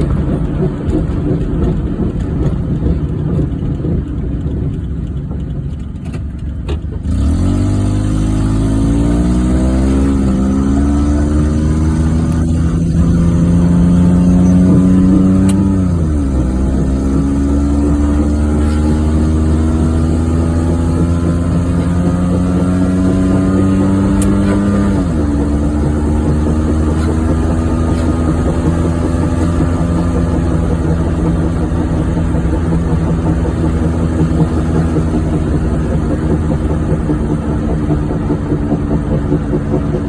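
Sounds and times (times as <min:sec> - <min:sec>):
car engine accelerating: 0:00.0 - 0:40.0
low road drone: 0:00.0 - 0:40.0.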